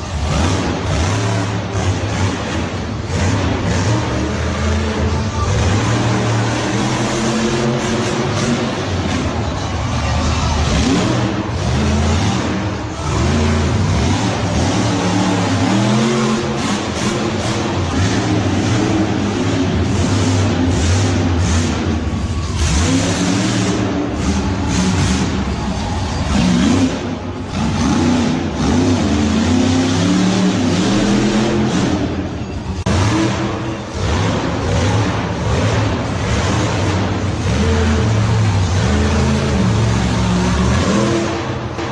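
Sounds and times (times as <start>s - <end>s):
truck engine revving: 0.0s - 41.9s.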